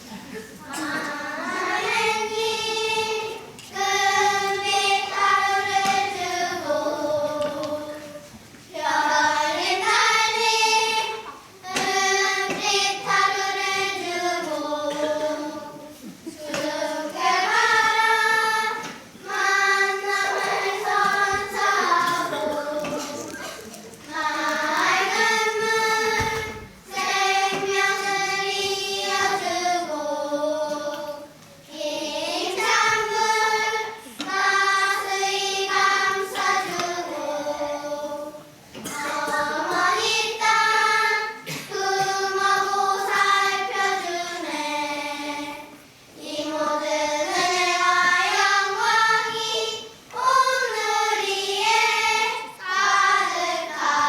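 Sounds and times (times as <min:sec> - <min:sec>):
children singing in unison: 0:00.0 - 0:54.0.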